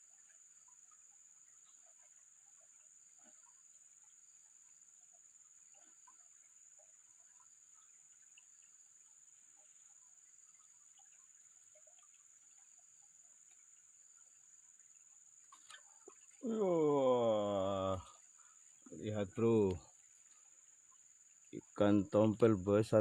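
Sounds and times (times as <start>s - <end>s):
faint chirps: 0.0s - 23.0s.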